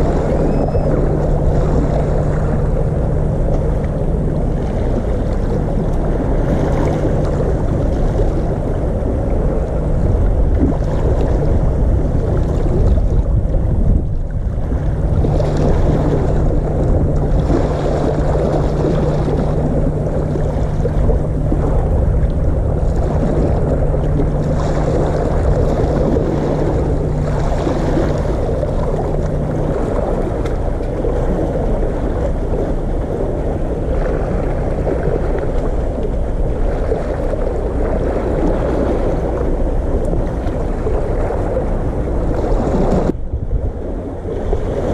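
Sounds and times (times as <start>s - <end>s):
low steady hum: 0.0s - 44.9s
waves sloshing against concrete: 0.0s - 44.9s
wind buffeting microphone: 0.0s - 44.9s.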